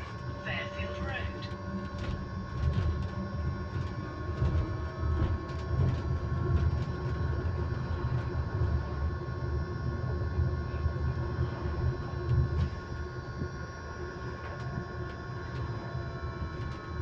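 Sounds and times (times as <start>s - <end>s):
low road rumble: 0.0s - 17.0s
steady electric whine: 0.0s - 17.0s.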